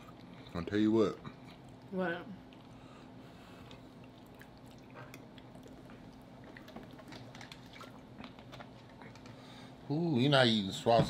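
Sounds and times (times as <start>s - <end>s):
people chewing food: 0.0s - 9.9s.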